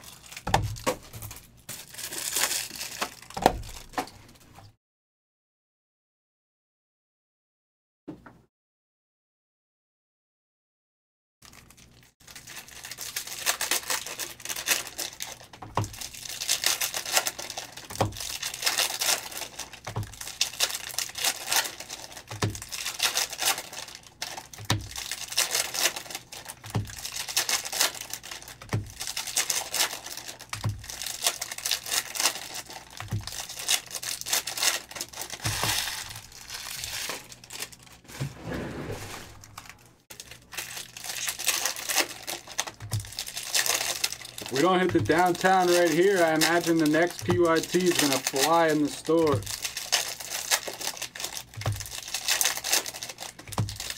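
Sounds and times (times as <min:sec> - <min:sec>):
foil wrappers crinkling and tearing: 0:00.0 - 0:04.6, 0:11.4 - 0:38.1, 0:39.0 - 0:53.9.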